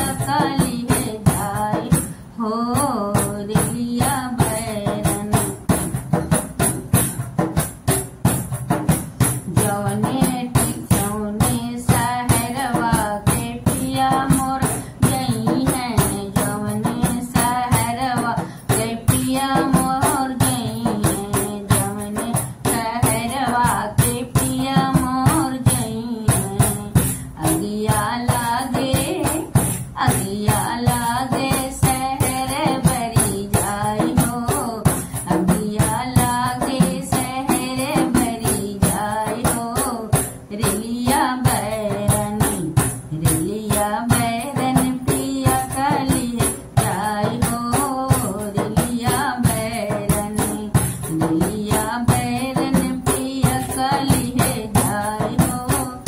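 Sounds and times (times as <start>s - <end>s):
woman singing: 0.0s - 6.1s, 9.2s - 56.0s
jingling percussion beat: 3.2s - 56.0s.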